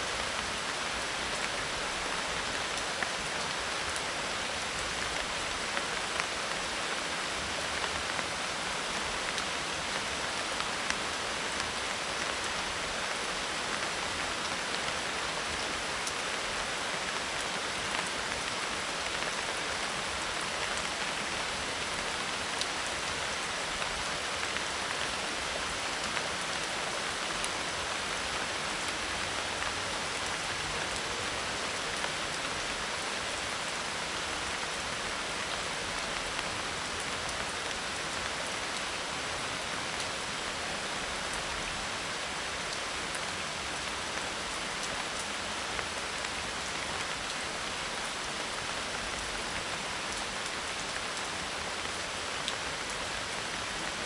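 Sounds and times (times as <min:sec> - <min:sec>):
rain on dried leaves: 0:00.0 - 0:54.0.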